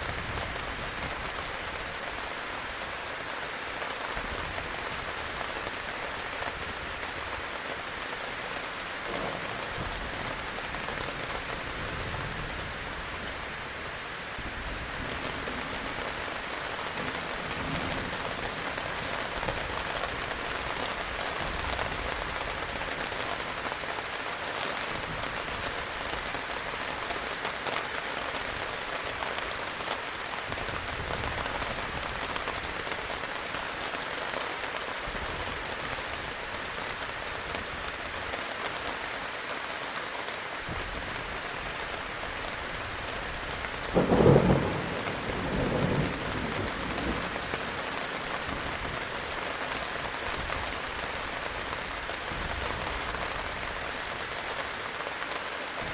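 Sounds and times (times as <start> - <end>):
heavy rain pattering: 0.0 - 55.9.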